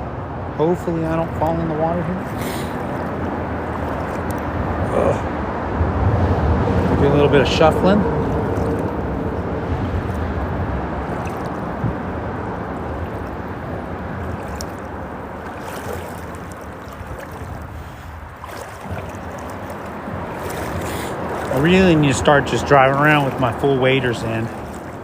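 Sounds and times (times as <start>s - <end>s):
water sloshing around wading legs: 0.8s - 25.0s.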